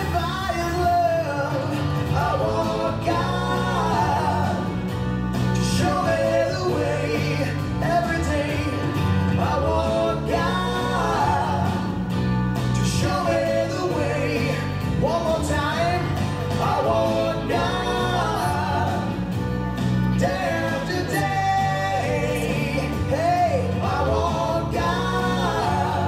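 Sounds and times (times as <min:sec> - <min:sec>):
song with vocals and bass: 0:00.0 - 0:26.0.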